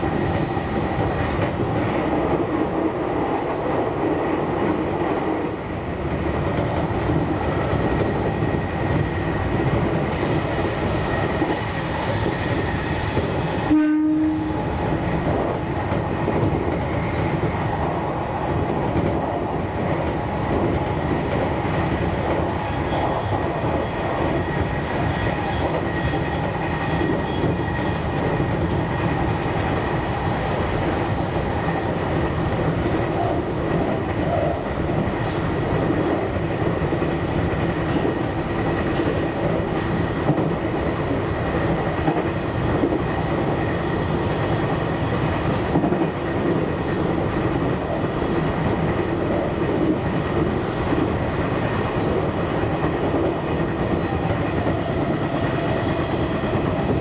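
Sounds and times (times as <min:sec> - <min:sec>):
wheels running on rail: 0:00.0 - 0:57.0.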